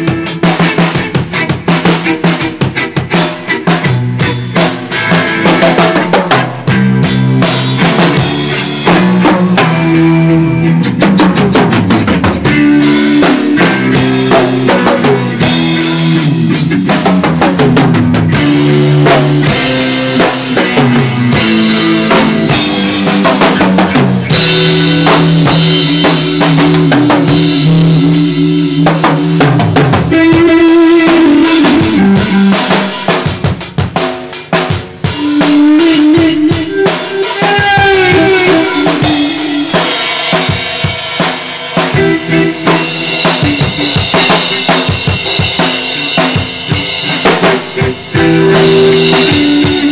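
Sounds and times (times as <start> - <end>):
drum kit played hard: 0.0 - 49.9.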